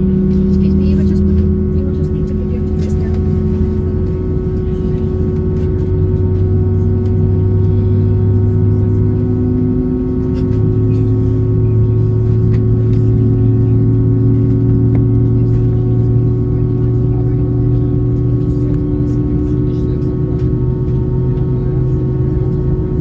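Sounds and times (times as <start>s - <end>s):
aircraft cabin engine hum: 0.0s - 23.0s.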